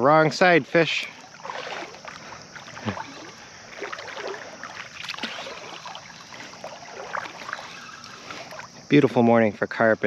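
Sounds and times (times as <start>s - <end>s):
water lapping and sloshing: 0.4s - 8.9s.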